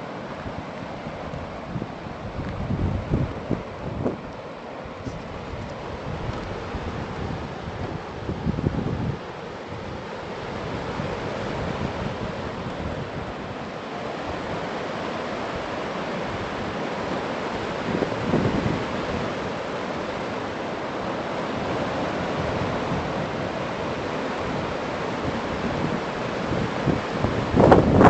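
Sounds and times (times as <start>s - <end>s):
river water rushing over rapids: 0.0s - 28.0s
wind buffeting microphone: 0.4s - 20.2s, 21.5s - 28.0s.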